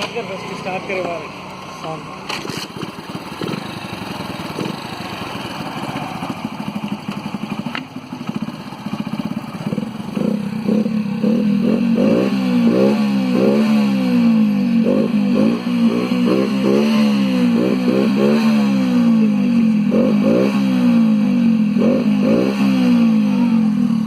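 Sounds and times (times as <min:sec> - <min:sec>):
motorcycle engine idling and revving: 0:00.0 - 0:24.0.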